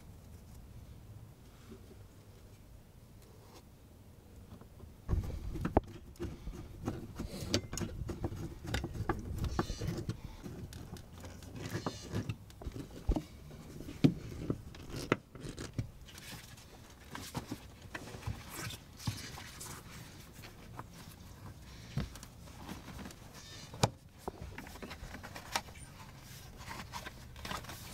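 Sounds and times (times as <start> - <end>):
clicks taps and rustling: 4.5 - 27.9.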